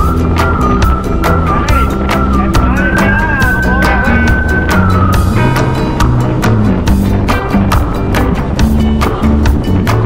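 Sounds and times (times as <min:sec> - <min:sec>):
high lead melody: 0:00.0 - 0:10.0
steady drum beat: 0:00.0 - 0:10.0.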